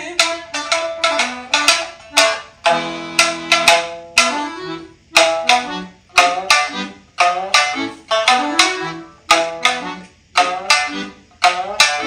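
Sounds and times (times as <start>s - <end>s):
accordion low chords: 0.0s - 12.0s
shamisen plucked notes: 0.0s - 12.0s.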